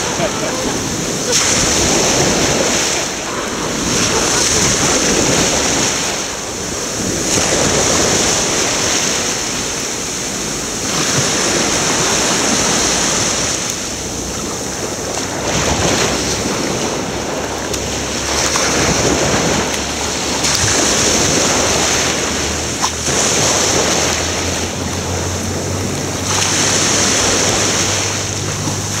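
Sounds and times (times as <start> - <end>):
ocean surf washing in: 0.0 - 29.0
wind buffeting microphone: 0.0 - 29.0.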